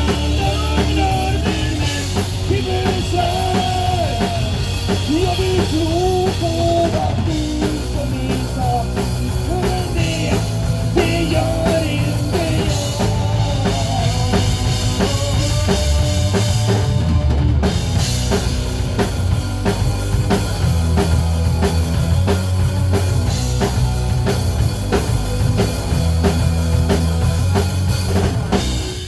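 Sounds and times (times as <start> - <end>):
bass guitar: 0.0 - 29.0
drum kit beat: 0.0 - 29.0
rock band playing instrumental: 0.0 - 29.0.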